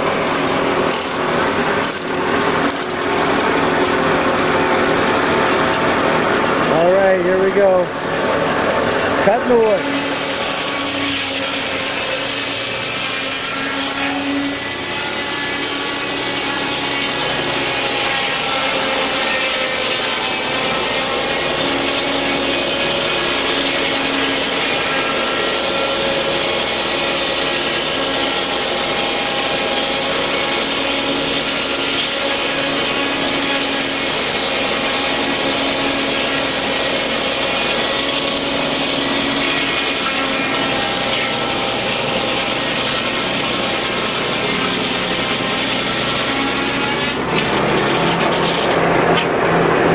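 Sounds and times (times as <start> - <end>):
circular saw cutting log: 0.0 - 49.9.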